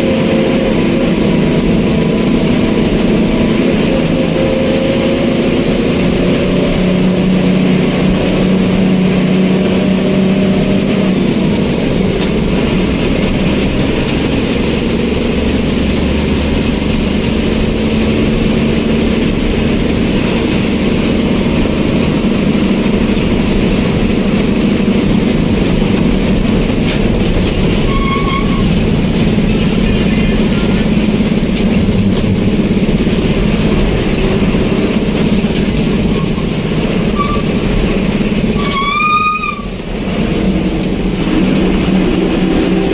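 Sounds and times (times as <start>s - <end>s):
road noise: 0.0s - 42.9s
vehicle engine drone: 0.0s - 42.9s.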